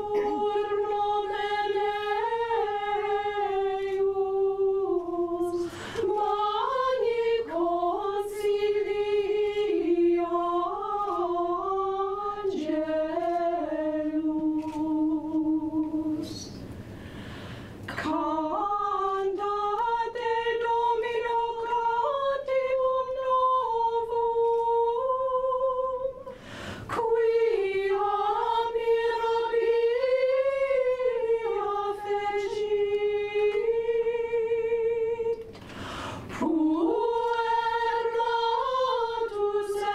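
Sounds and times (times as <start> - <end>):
women singing a cappella harmony: 0.0 - 16.7, 17.8 - 39.9.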